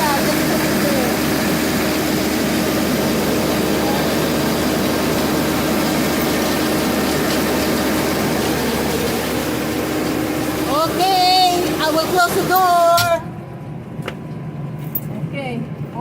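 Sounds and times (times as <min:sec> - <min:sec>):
tractor engine humming: 0:00.0 - 0:14.8.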